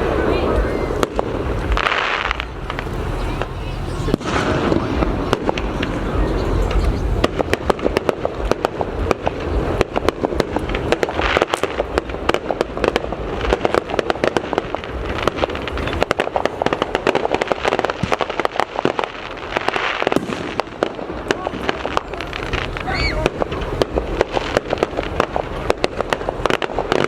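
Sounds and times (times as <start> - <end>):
fireworks cracks and bangs: 0.0 - 27.0
low booming rumble: 0.0 - 27.0.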